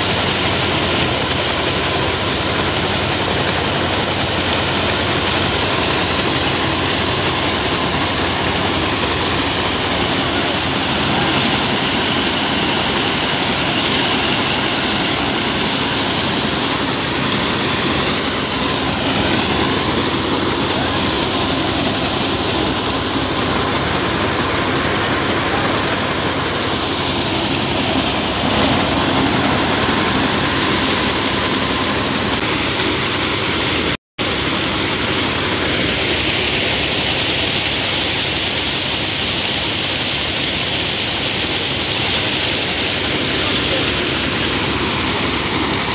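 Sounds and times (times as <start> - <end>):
straw and chaff rushing: 0.0 - 45.9
thresher engine droning: 0.0 - 45.9.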